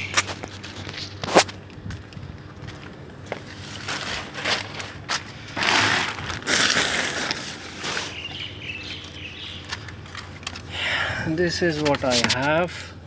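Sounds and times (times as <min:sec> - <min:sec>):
scraping and crunching: 0:00.0 - 0:12.9.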